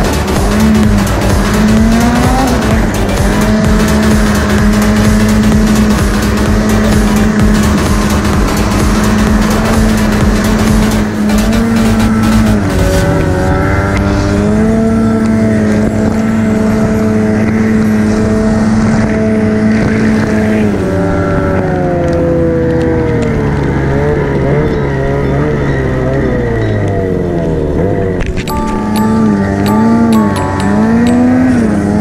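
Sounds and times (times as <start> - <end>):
snowmobile engine running hard: 0.0 - 32.0.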